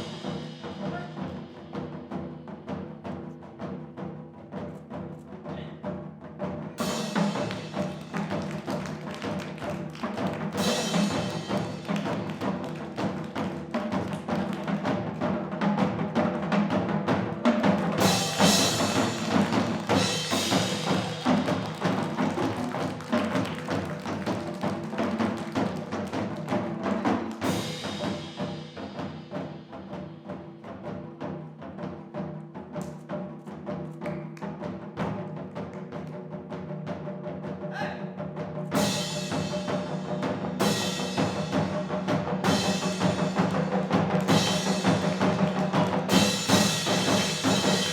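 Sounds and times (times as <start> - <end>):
drums struck in dense rhythm: 0.0 - 47.9.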